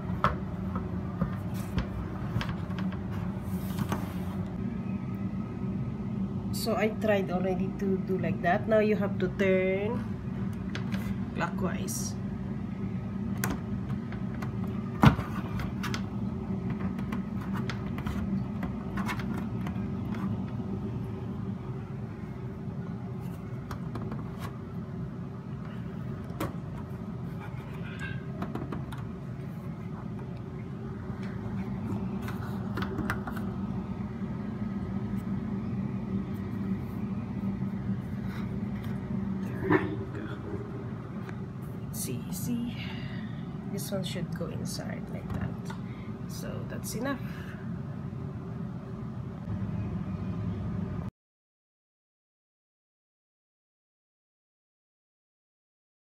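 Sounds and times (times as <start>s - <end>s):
low hum: 0.0s - 51.1s.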